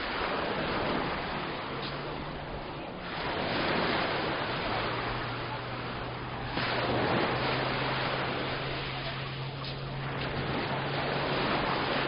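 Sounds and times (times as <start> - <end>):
waves breaking on a beach: 0.0 - 12.0.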